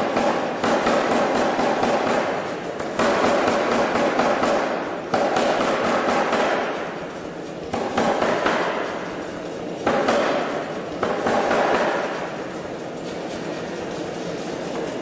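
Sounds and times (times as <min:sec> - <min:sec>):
air hammer pounding metal: 0:00.0 - 0:15.0.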